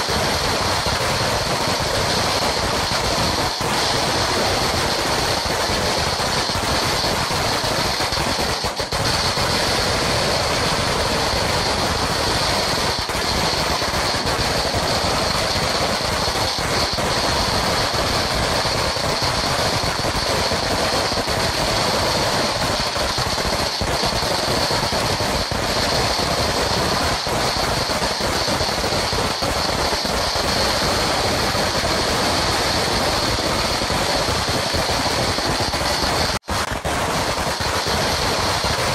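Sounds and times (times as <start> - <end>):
firecracker string crackling: 0.0 - 38.9.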